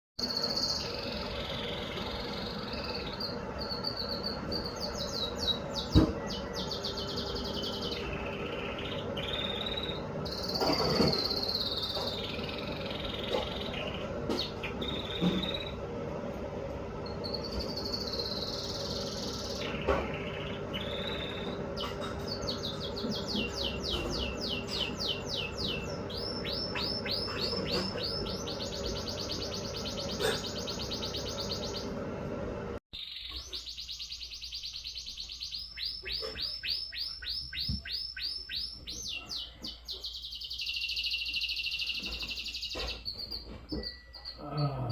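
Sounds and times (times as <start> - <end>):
canary singing trills: 0.2 - 16.0, 17.0 - 32.0, 33.0 - 44.9.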